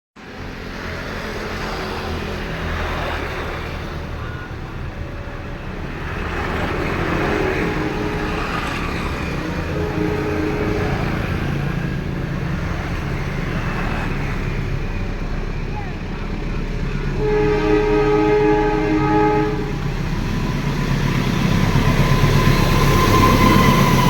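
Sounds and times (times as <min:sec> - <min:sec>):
road traffic rumble: 0:00.2 - 0:24.0.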